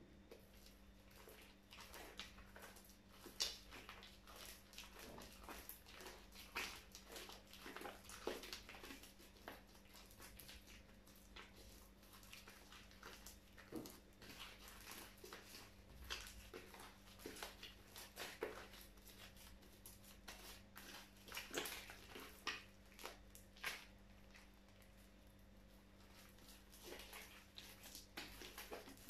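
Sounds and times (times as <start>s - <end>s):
faint steady hum: 0.0s - 29.0s
sticky slime squelches: 0.0s - 29.0s.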